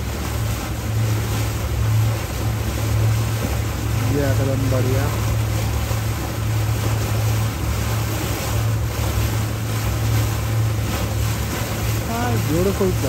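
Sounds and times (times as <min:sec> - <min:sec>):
boat motor droning: 0:00.0 - 0:13.0
wind and water rushing: 0:00.0 - 0:13.0.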